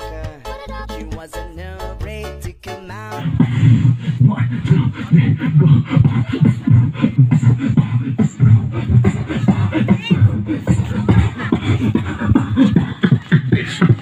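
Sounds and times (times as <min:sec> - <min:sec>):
man beatboxing into microphone: 0:00.0 - 0:14.0.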